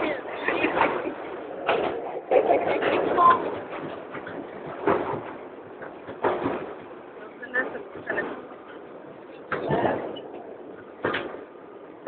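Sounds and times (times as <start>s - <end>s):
train car running noise: 0.0s - 12.0s.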